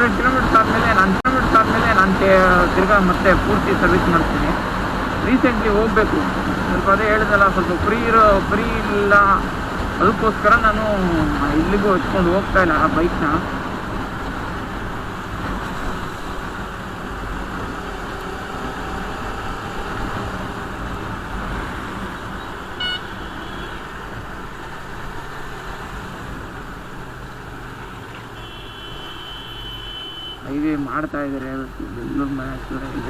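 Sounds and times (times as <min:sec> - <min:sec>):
wind and road rush: 0:00.0 - 0:33.0.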